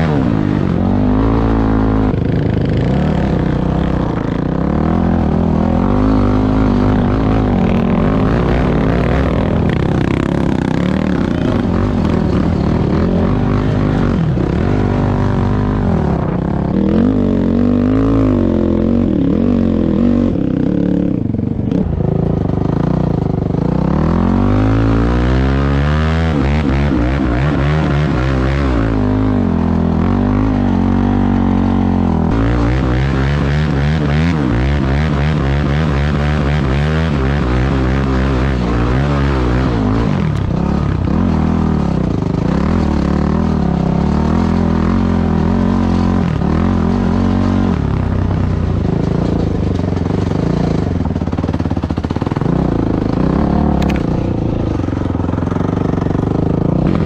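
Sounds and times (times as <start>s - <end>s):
single-cylinder engine revving: 0.0s - 57.0s.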